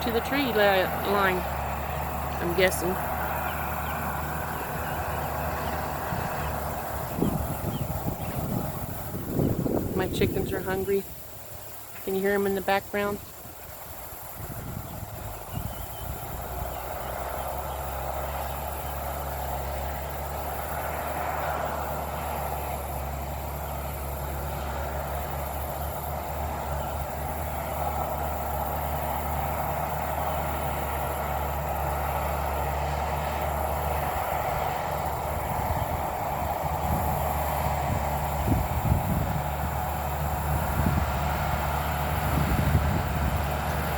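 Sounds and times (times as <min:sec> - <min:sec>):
distant diesel engine running: 0:00.0 - 0:43.9.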